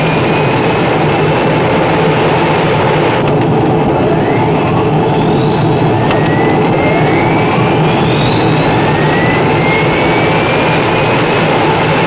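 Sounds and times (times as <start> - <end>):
aircraft turbine engines: 0.0 - 12.0
rising turbine whines: 0.0 - 12.0.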